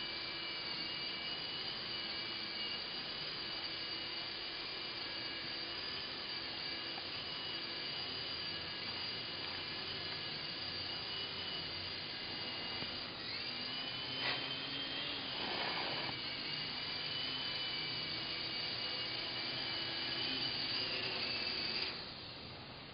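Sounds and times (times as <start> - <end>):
toy helicopter rotor whine: 0.0 - 22.9.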